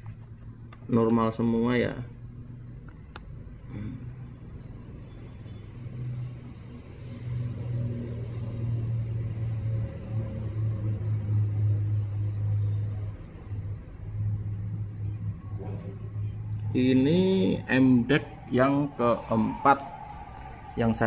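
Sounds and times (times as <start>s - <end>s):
low mechanical rumble: 0.0s - 21.0s.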